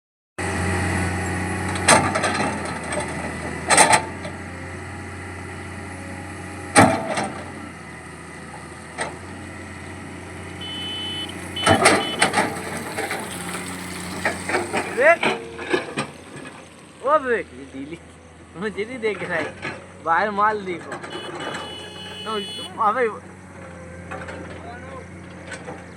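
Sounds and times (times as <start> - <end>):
diesel engine of digger running: 0.4 - 25.9.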